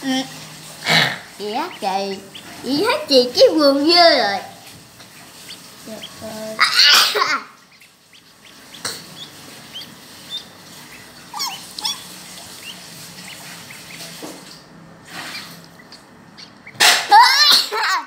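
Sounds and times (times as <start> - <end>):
ducklings peeping: 0.4 - 14.4, 15.1 - 17.5.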